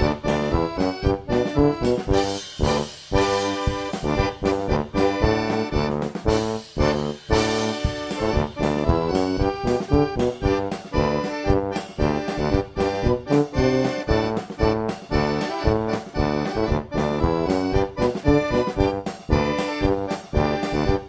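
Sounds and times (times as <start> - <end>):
bouncy instrumental music: 0.0 - 21.0.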